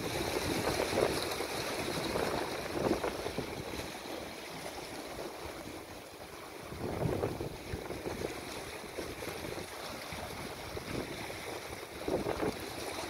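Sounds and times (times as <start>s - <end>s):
waves splashing against rocks: 0.0s - 13.0s.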